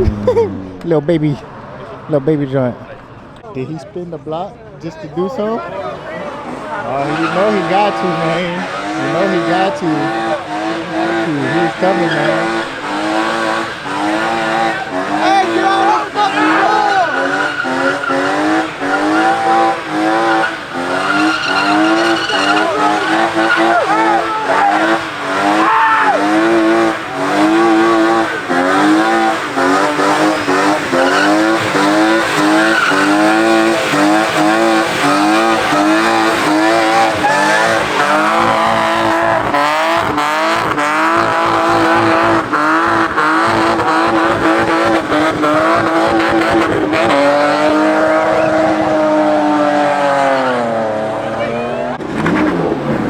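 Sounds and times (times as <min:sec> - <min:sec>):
car engine revving: 0:00.0 - 0:04.8, 0:05.4 - 0:53.0
tyres squealing: 0:05.9 - 0:48.6.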